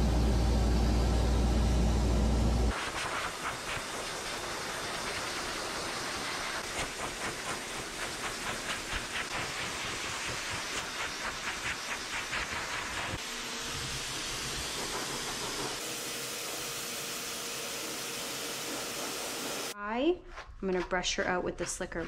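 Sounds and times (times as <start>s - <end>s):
pet dryer blowing air: 0.0s - 19.8s.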